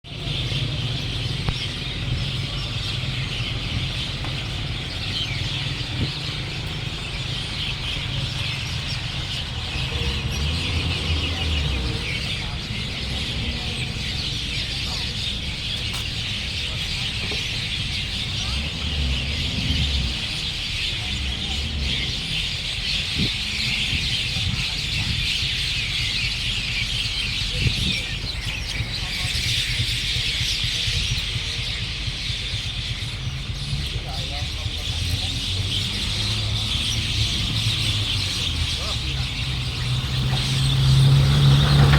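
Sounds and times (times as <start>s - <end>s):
birds chirping: 0.0s - 41.9s
slow bird calls: 0.1s - 41.9s.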